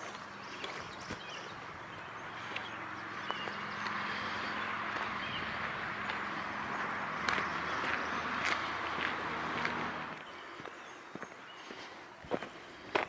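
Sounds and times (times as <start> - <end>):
footsteps crunching on ballast: 0.0 - 13.0
highway traffic hiss: 0.0 - 13.0.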